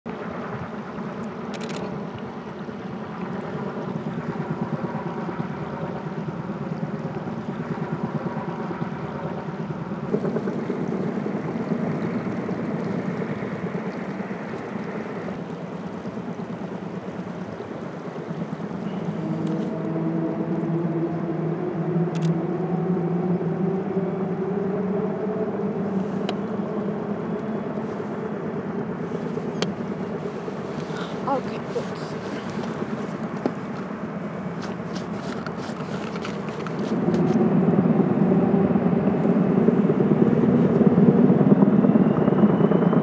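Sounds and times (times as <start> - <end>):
helicopter rotors beating: 0.1 - 43.0.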